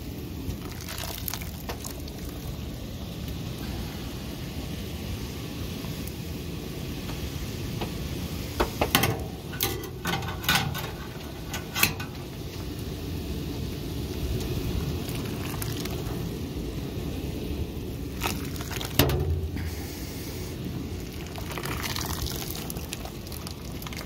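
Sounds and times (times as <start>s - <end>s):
sap boiling with sizzling hiss: 0.0s - 24.0s.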